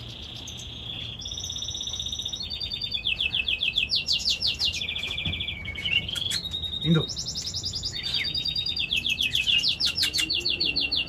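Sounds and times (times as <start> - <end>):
finch singing fast trills: 0.0 - 11.0.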